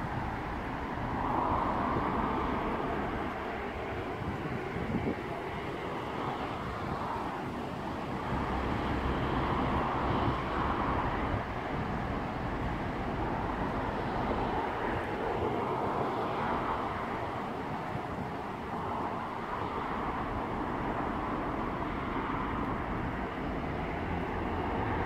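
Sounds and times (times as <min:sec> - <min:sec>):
distant diesel locomotive rumble: 0:00.0 - 0:25.0.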